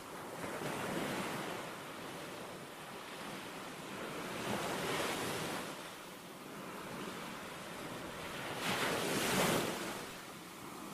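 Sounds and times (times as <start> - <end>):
surf washing on shore: 0.0 - 10.9
wind: 0.0 - 10.9.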